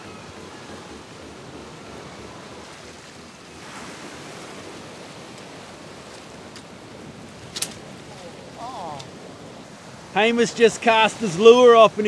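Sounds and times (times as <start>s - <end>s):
sea surf against rocks: 0.0s - 12.0s.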